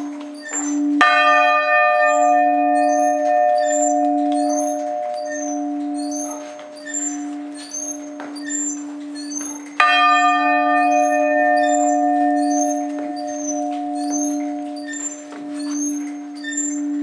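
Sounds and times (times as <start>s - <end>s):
loud bell strike: 0.0s - 8.4s, 9.8s - 17.0s
church bells ringing: 0.0s - 17.0s
low hum from bells: 0.0s - 17.0s.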